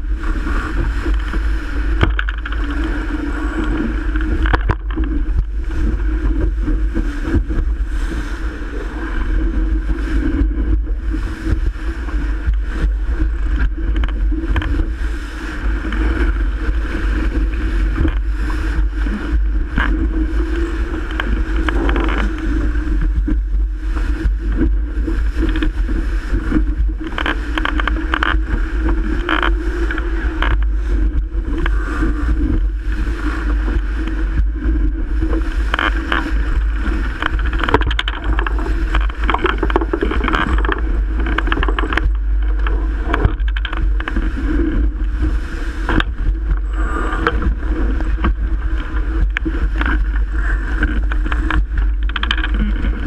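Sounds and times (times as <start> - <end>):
rushing water: 0.0 - 53.0
wind buffeting microphone: 0.0 - 53.0.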